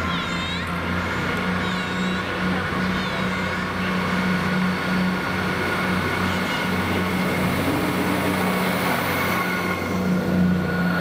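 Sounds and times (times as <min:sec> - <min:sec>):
diesel train engine drone: 0:00.0 - 0:11.0
train wheels rumbling: 0:00.0 - 0:11.0.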